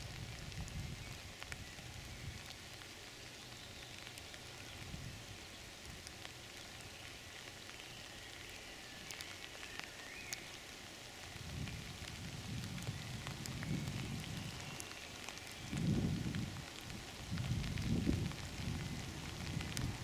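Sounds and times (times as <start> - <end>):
light ticks and crackles: 0.0 - 20.0.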